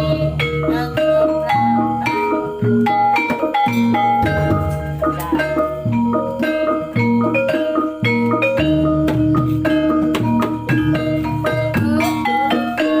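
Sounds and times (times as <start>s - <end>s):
drum strokes: 0.0s - 13.0s
low ringing tones: 0.0s - 13.0s
metal mallet instruments: 0.0s - 13.0s.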